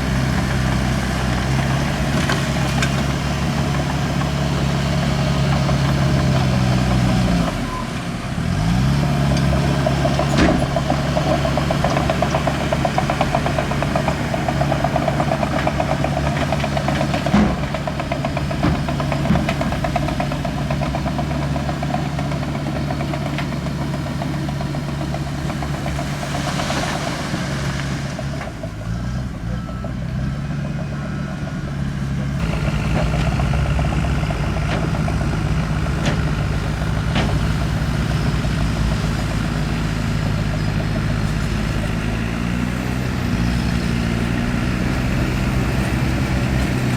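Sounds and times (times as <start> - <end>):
heavy diesel engine revving: 0.0 - 46.9.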